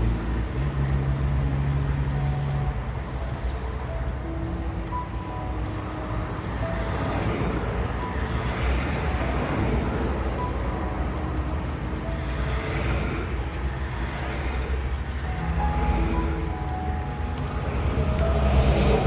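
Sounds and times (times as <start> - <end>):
highway traffic rush: 0.0 - 19.0
vehicles passing: 0.0 - 19.0.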